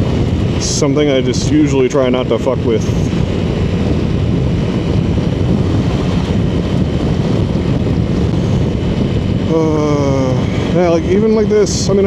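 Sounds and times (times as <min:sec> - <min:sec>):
motorcycle engine and tyre noise: 0:00.0 - 0:12.0
wind rushing over microphone: 0:00.0 - 0:12.0.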